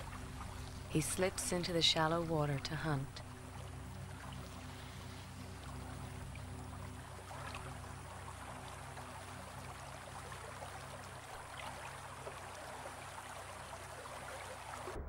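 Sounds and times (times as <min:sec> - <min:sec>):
low steady hum: 0:00.0 - 0:15.0
shallow water trickling and splashing: 0:00.0 - 0:15.0.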